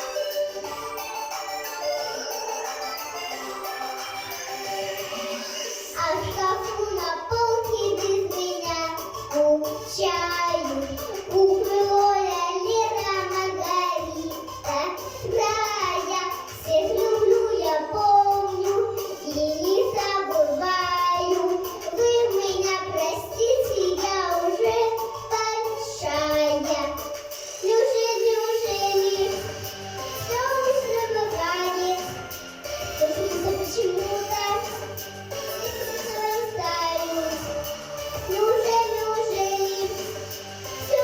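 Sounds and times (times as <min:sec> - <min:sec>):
instrumental accompaniment: 0:00.0 - 0:23.5, 0:24.1 - 0:41.0
girl singing: 0:04.8 - 0:41.0.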